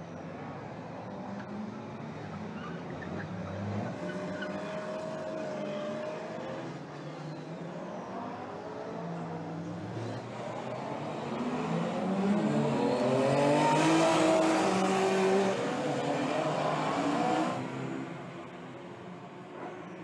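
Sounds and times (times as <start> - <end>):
race cars accelerating past: 1.4 - 20.0.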